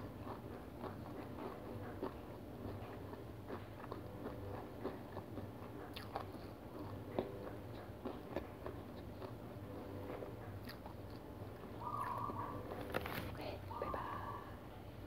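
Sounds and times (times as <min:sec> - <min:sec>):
person chewing crunchy cereal bar: 0:00.0 - 0:14.2.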